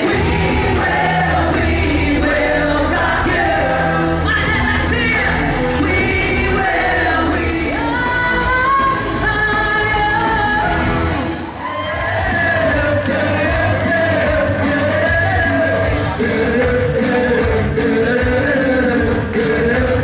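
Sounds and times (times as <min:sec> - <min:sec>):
loud rock band playing: 0:00.0 - 0:20.0
person singing into microphone: 0:00.0 - 0:20.0.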